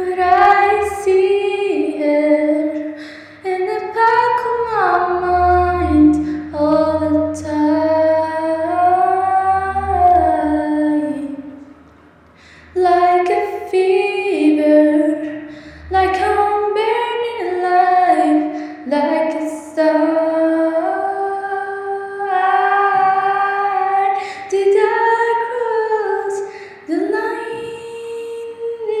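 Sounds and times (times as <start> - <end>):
woman singing unaccompanied: 0.0 - 11.7, 12.8 - 29.0.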